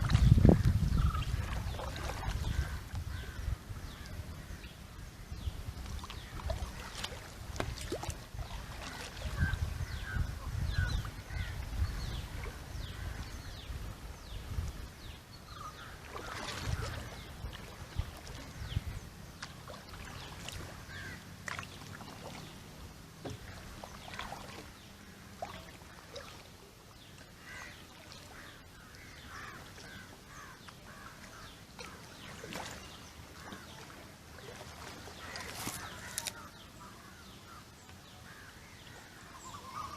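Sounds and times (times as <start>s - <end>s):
water splashing around kayak: 0.0s - 39.9s
birds calling: 0.1s - 39.9s.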